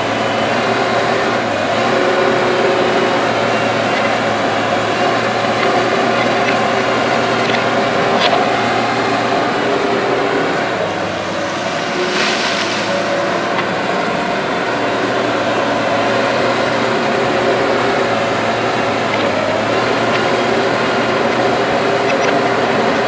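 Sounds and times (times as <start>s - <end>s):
excavator diesel engine: 0.0s - 23.0s.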